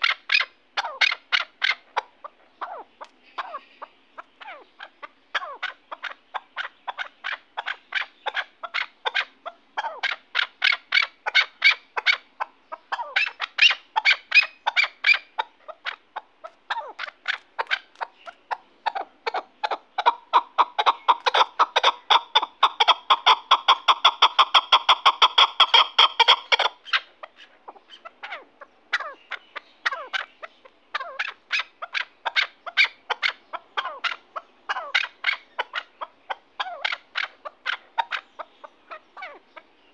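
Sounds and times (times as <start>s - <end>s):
partridge calling: 0.0s - 39.9s.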